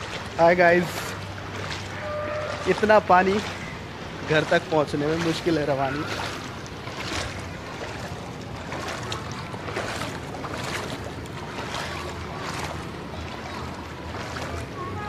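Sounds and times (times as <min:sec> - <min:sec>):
rush of moving water: 0:00.0 - 0:15.0
wading splashes in floodwater: 0:00.0 - 0:15.0.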